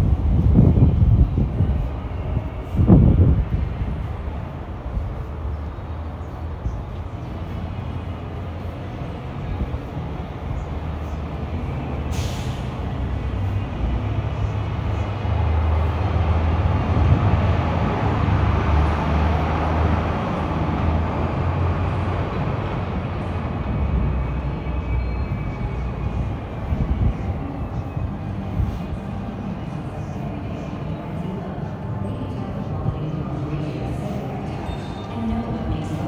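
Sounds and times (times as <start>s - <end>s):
rumble of passing vehicles: 0.0s - 36.0s.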